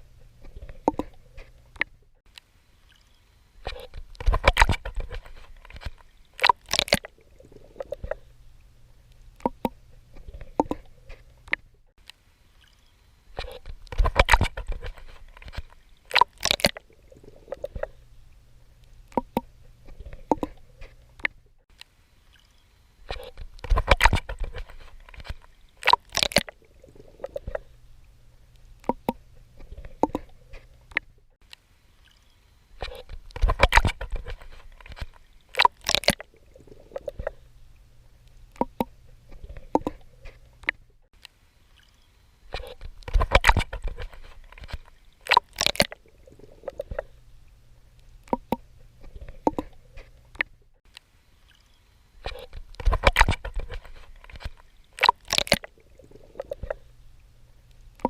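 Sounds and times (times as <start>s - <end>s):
water splashing from swimming: 0.0s - 1.9s, 2.7s - 11.7s, 12.4s - 21.4s, 22.1s - 40.8s, 41.6s - 47.4s, 48.1s - 50.5s, 51.2s - 57.3s.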